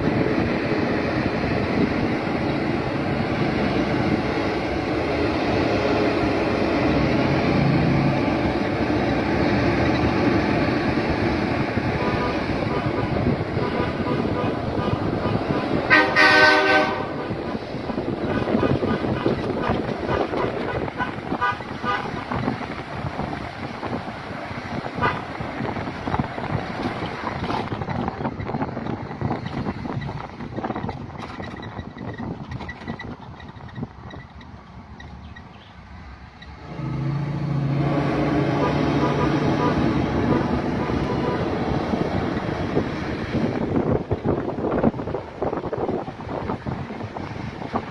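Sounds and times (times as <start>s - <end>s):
truck diesel engine rumbling: 0.0s - 47.9s
wind buffeting microphone: 0.0s - 47.9s.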